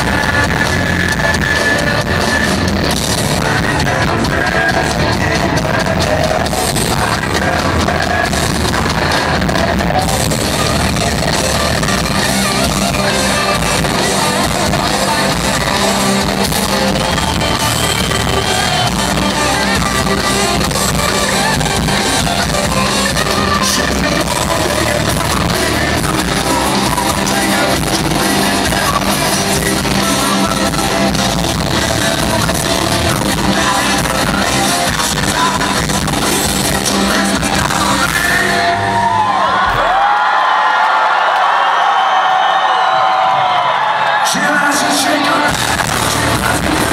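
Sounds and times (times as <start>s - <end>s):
live rock band playing: 0.0s - 39.7s, 44.3s - 46.9s
man singing and yelling: 0.0s - 40.0s, 44.2s - 46.9s.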